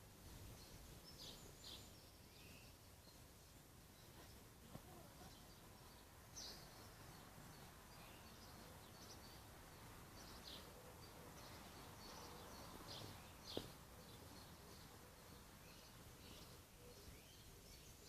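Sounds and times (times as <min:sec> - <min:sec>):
outdoor background noise: 0:00.0 - 0:18.0
faint bird chirps: 0:00.3 - 0:18.0.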